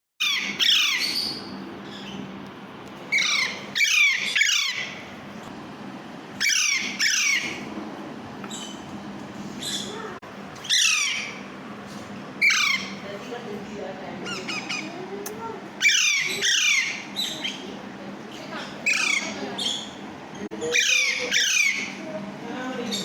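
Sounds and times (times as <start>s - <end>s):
parakeet chicks squawking: 0.2s - 2.4s, 3.1s - 5.4s, 6.4s - 7.7s, 8.4s - 11.6s, 12.4s - 13.5s, 14.2s - 23.0s.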